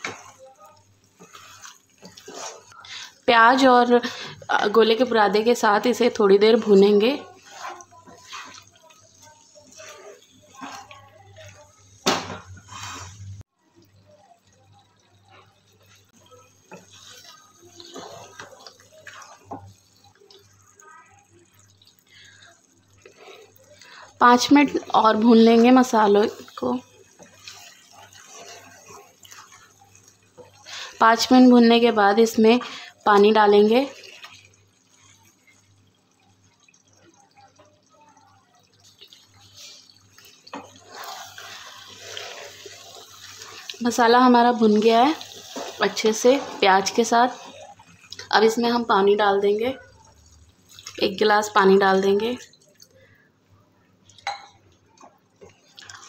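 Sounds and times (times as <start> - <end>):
wooden spatula stirring in pan: 0.0 - 53.1, 54.2 - 56.0
soft sizzle: 0.0 - 56.0.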